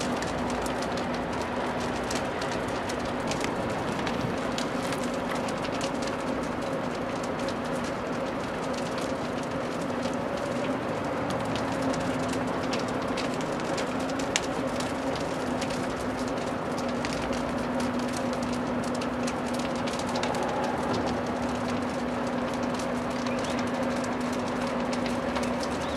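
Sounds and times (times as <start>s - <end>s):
dense crackle of sharp clicks: 0.0s - 25.9s.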